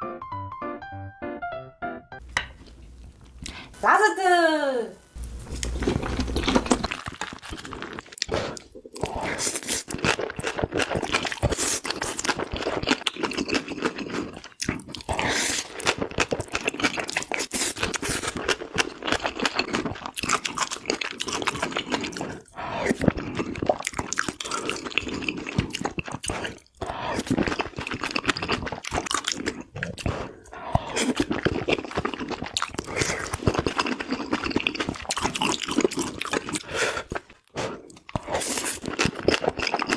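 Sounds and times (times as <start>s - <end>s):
chewing and crunching food: 5.2s - 39.9s.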